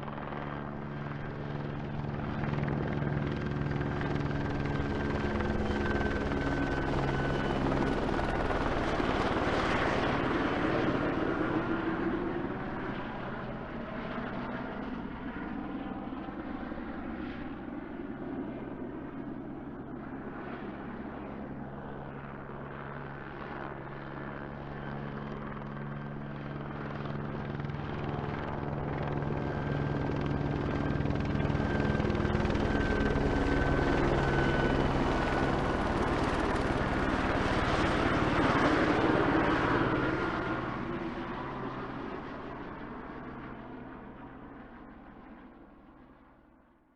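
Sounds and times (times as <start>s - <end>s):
helicopter passing overhead: 0.0s - 46.8s.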